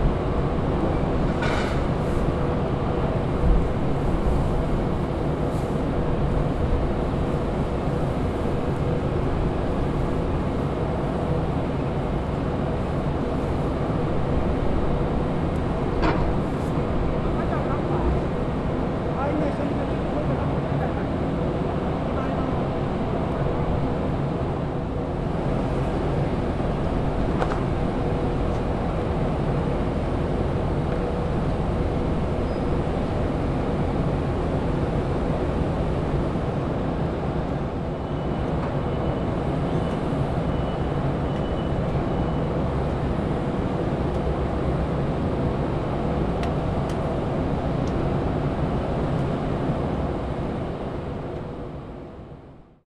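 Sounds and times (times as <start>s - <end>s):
ship engines droning: 0.0s - 52.6s.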